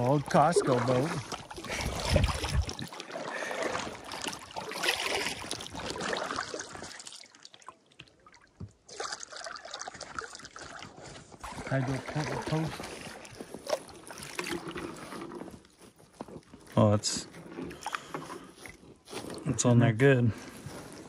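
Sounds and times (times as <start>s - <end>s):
paddles splashing in water: 0.0s - 19.5s
water trickling off paddles: 0.0s - 21.0s.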